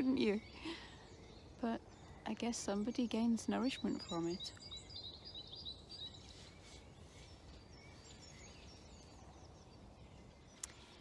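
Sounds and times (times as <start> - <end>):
small birds twittering: 0.0 - 11.0
woodland ambience: 0.0 - 11.0.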